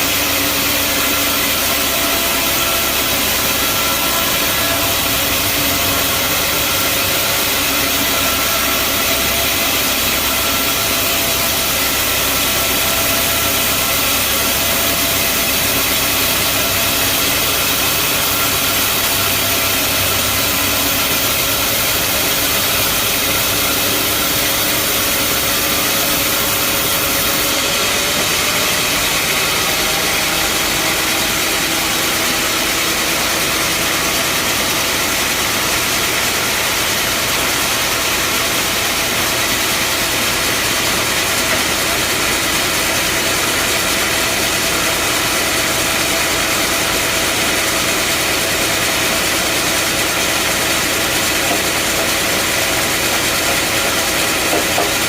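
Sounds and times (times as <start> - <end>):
band sawmill drone: 0.0 - 55.0.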